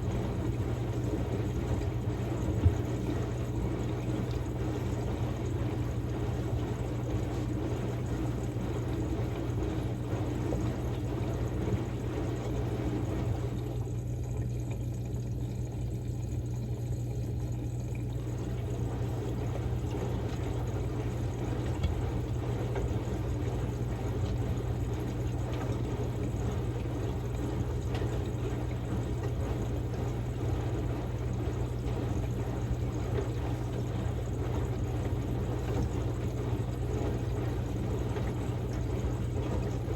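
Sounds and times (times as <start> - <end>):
washing machine hum: 0.0 - 39.9
water splashing in washing machine: 0.0 - 39.9.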